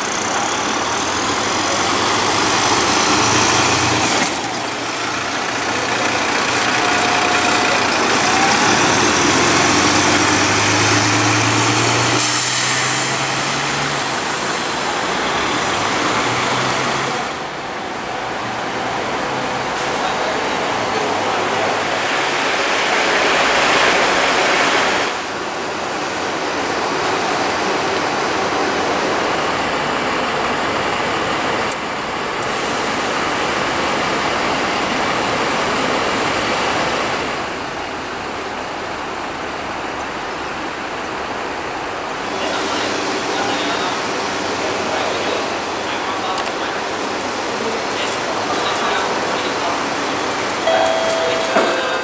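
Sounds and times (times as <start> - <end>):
steady hiss of parked buses: 0.0 - 51.0.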